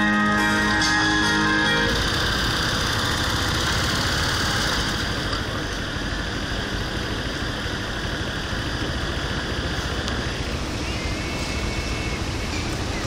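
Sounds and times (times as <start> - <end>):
scooter engine idling: 0.4 - 13.0.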